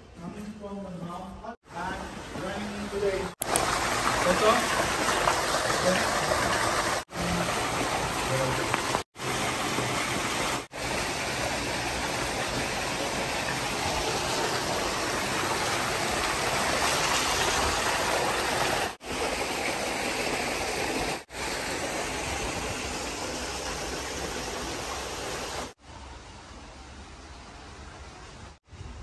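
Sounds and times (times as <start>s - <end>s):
water gushing onto stone: 2.1s - 25.8s.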